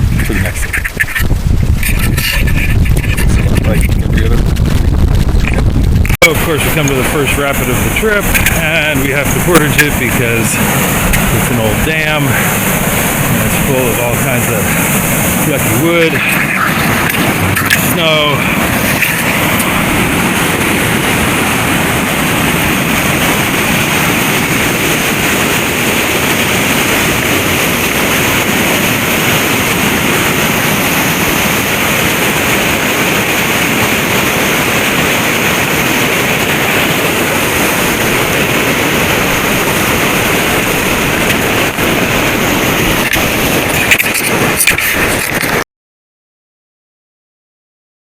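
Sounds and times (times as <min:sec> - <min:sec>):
river water rushing through rapid: 0:06.0 - 0:45.6.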